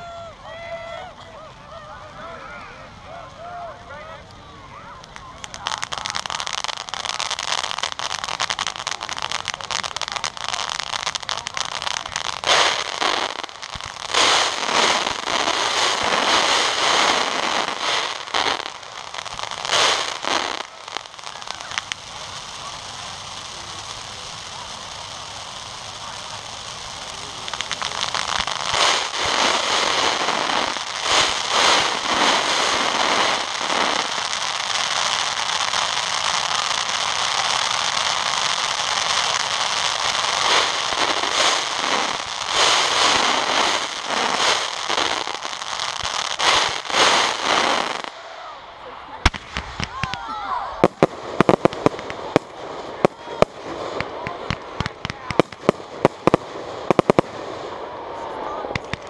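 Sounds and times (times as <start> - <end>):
fireworks hissing and crackling: 0.0 - 59.0.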